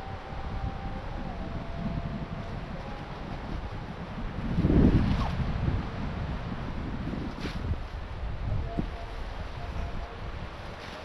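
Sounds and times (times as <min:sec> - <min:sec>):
blizzard wind buffeting microphone: 0:00.0 - 0:11.0.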